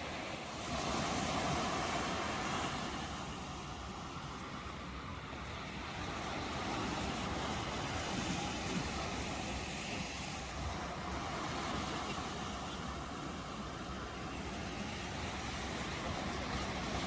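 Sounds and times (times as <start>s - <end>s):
ocean waves on shore: 0.0s - 17.0s.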